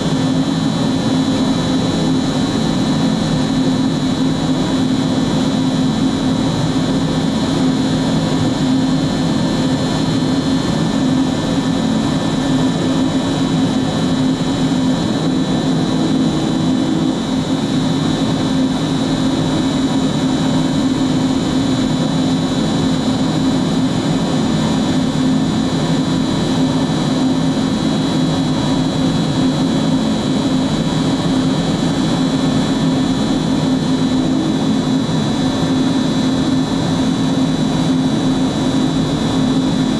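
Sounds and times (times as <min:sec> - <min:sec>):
cnc router high whine: 0:00.0 - 0:39.9
constant low hum: 0:00.0 - 0:39.9.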